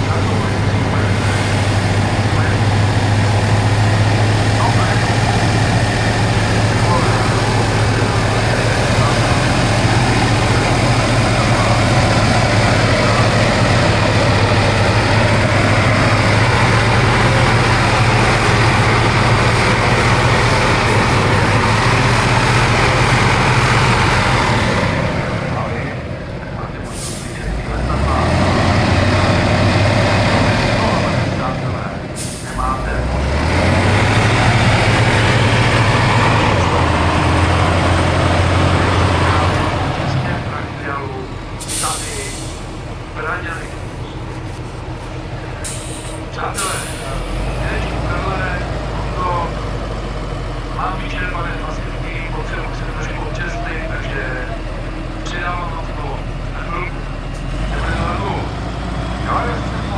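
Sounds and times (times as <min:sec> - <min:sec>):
truck engine running loud: 0:00.0 - 0:59.9.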